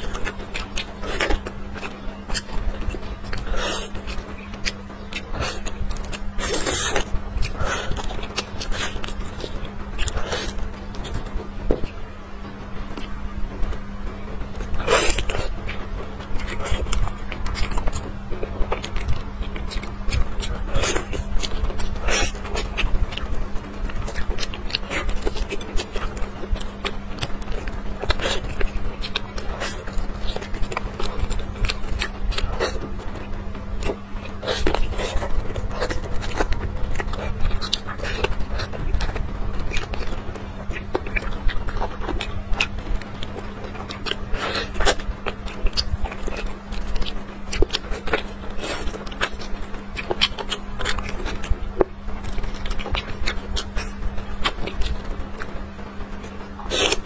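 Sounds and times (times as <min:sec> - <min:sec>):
low hum: 0:00.0 - 0:57.0
wet chewing and lip smacking: 0:00.0 - 0:57.0.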